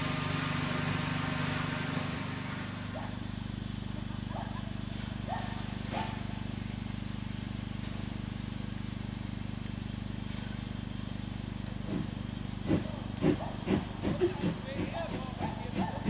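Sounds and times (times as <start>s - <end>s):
steady low hum: 2.0s - 16.0s.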